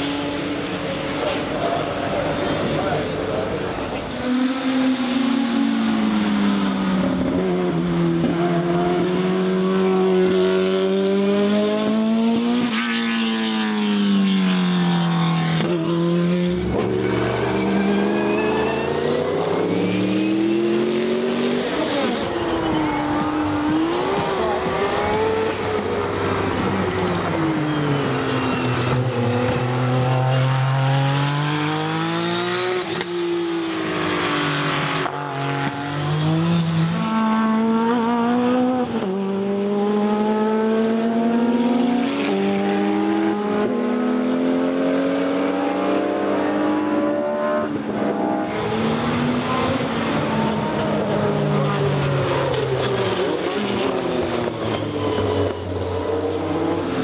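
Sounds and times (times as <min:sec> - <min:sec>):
race car engine accelerating: 0:00.1 - 0:57.0.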